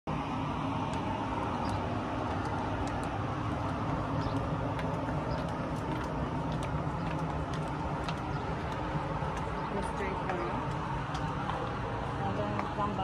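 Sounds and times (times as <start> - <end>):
outdoor background rumble: 0.1 - 13.0.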